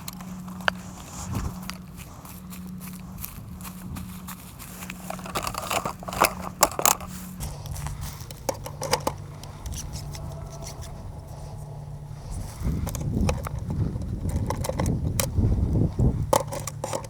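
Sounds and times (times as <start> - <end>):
clicks and scrapes of handling: 0.0 - 11.7, 12.3 - 17.0
steady low hum: 0.0 - 17.0.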